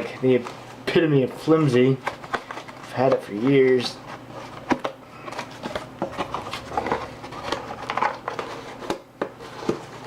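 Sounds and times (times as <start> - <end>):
cardboard rustling: 0.0 - 10.0.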